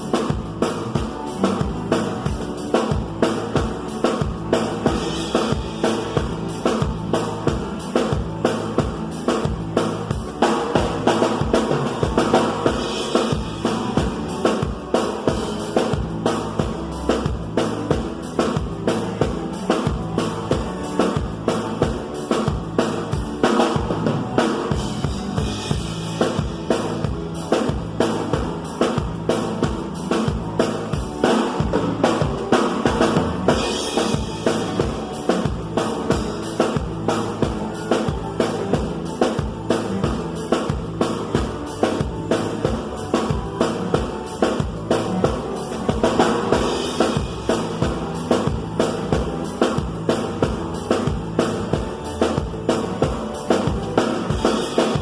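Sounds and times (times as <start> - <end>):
band music: 0.0 - 55.0
drum kit driving beat: 0.0 - 55.0.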